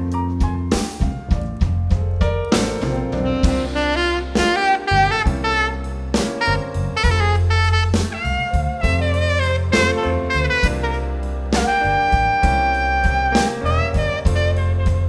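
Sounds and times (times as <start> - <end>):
bass: 0.0 - 15.0
drums: 0.0 - 15.0
tenor saxophone jazz solo: 2.5 - 15.0.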